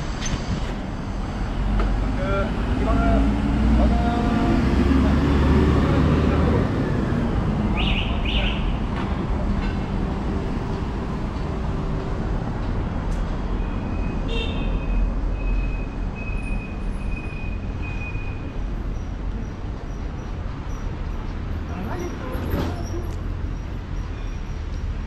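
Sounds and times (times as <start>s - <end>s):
passing cars rumble: 0.0s - 25.0s.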